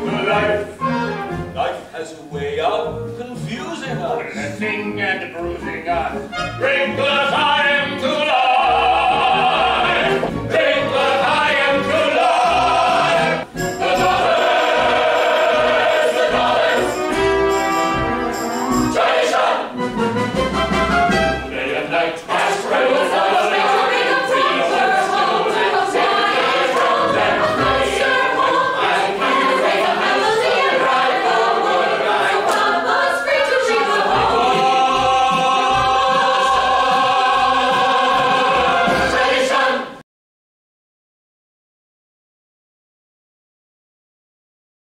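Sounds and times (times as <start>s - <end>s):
instrumental accompaniment: 0.0s - 8.1s, 8.8s - 39.7s
chorus singing: 0.0s - 40.0s.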